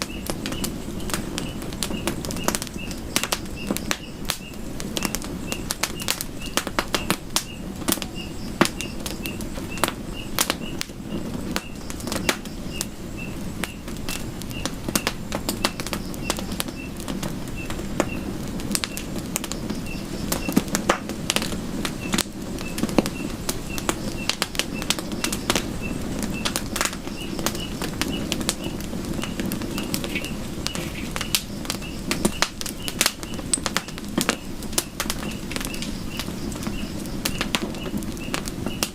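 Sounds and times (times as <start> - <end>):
faint high chirp: 0.0 - 17.0, 17.6 - 20.6, 22.0 - 38.9
campfire crackling and popping: 0.0 - 38.9.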